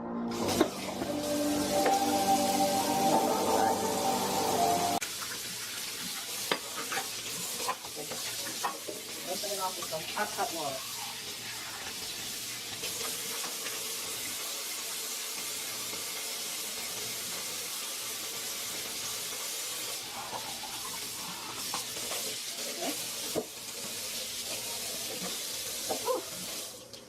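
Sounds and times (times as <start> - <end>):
tap water running into sink: 5.0 - 27.0.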